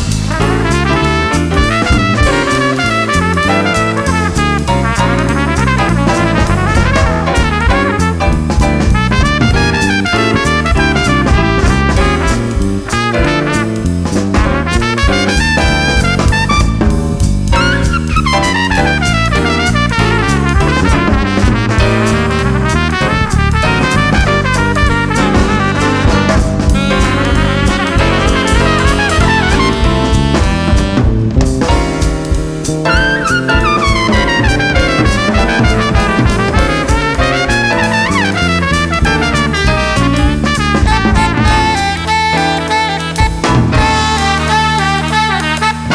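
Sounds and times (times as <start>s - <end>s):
bass line: 0.0s - 45.9s
brass lead: 0.0s - 45.9s
drum kit: 0.0s - 45.9s.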